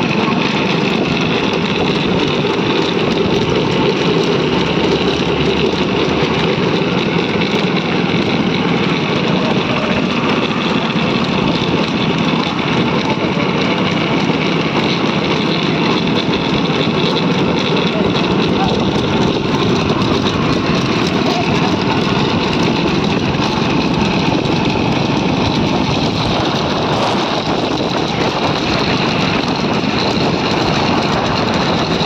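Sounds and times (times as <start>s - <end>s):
cart wheels rumbling on asphalt: 0.0s - 32.0s.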